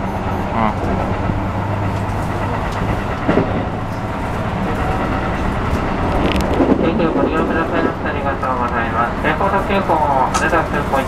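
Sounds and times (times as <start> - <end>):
train interior running rumble: 0.0 - 11.0.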